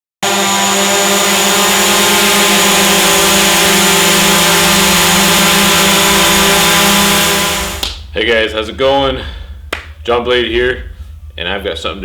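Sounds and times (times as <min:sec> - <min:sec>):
drone propellers humming: 0:00.2 - 0:12.0.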